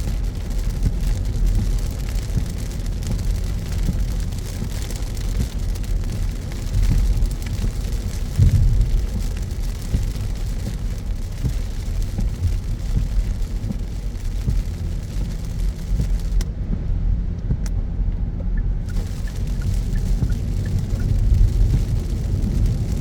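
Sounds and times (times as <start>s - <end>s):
rain hiss: 0.0s - 16.5s, 18.7s - 23.0s
car road and engine rumble: 0.0s - 23.0s.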